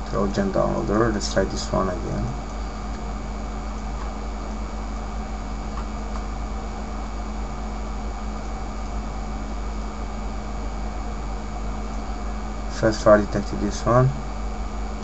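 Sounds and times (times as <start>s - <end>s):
constant tone: 0.0s - 15.0s
low hum and hiss: 0.0s - 15.0s.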